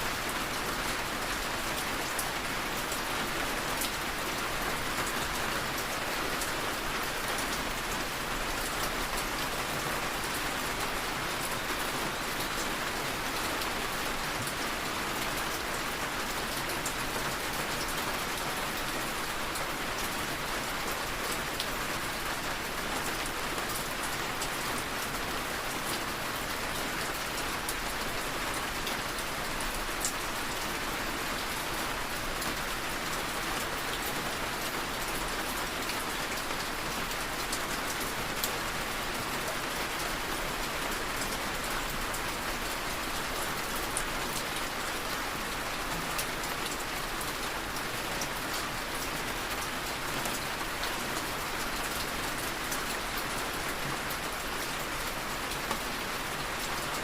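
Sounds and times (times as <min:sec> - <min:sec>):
rain tapping on a window: 0:00.1 - 0:57.0.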